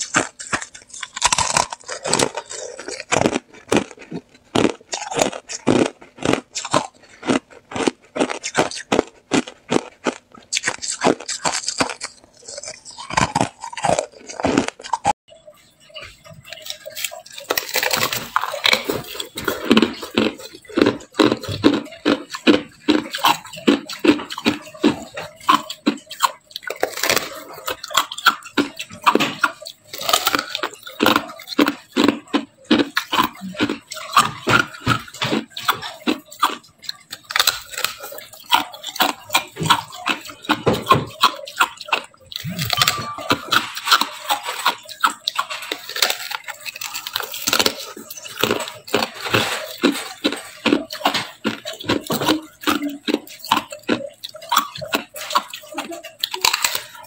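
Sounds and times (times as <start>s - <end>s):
ice crunching in mouth: 0.0s - 15.2s, 15.8s - 57.0s.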